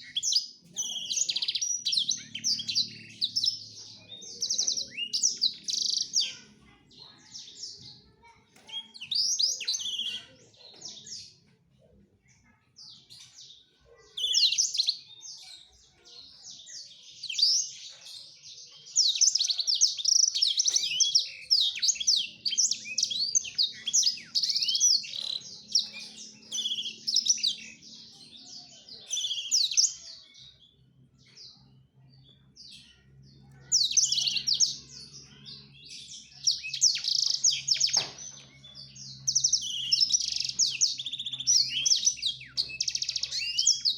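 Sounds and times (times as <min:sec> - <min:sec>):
canary singing: 0:00.0 - 0:11.5, 0:12.8 - 0:43.9.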